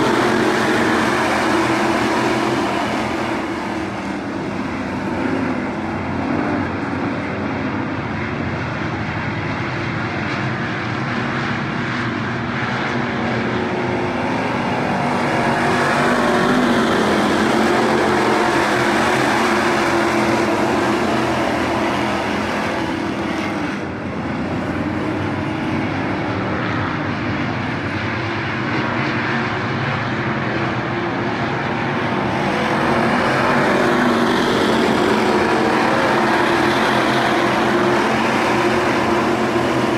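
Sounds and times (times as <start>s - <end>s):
race car engines roaring: 0.0s - 39.9s.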